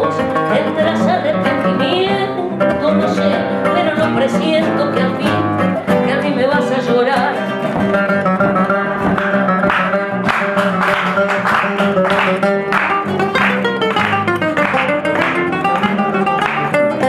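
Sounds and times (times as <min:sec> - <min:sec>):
acoustic guitars playing: 0:00.0 - 0:17.0.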